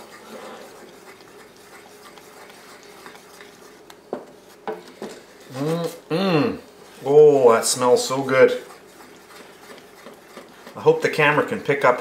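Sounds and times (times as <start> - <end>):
spoon stirring thick sauce: 0.0 - 5.6, 6.9 - 11.8.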